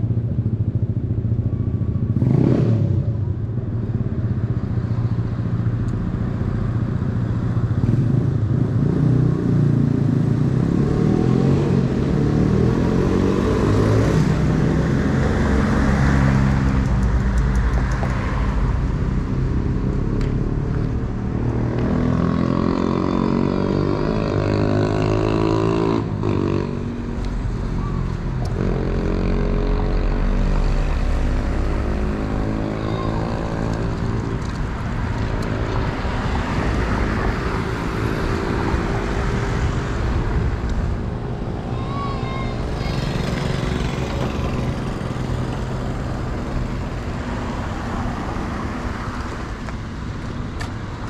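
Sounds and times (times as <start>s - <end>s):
vehicles driving past: 0.0s - 51.0s.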